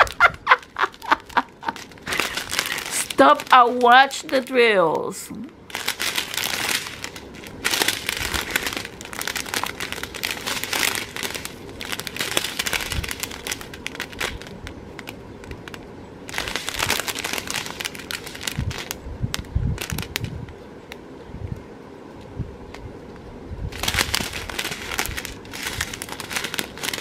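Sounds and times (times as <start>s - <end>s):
plastic bags crinkling: 0.0s - 20.3s, 23.7s - 27.0s.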